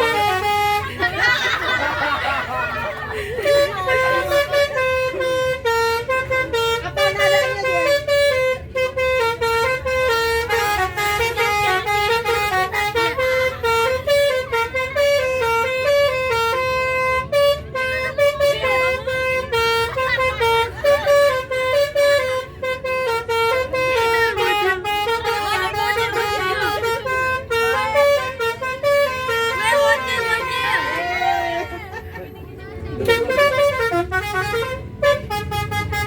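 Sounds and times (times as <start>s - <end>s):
bus musical horn tune: 0.0s - 36.0s.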